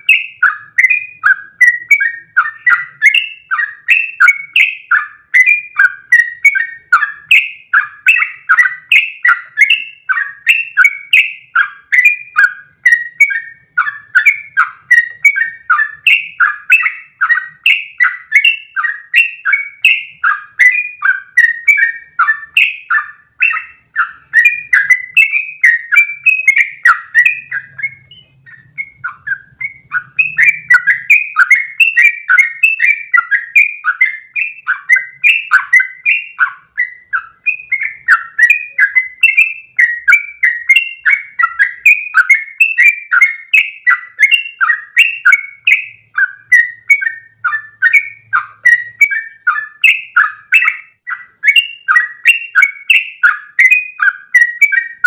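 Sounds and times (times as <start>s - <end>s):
bird singing bubbly notes: 0.0s - 55.0s.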